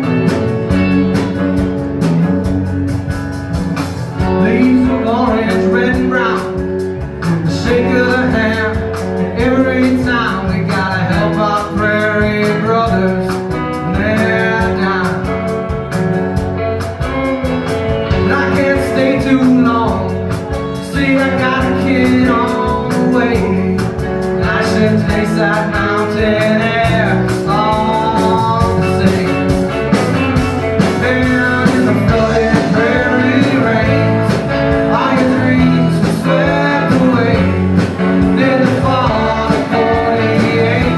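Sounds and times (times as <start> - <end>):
live country-rock band playing: 0.0 - 40.9.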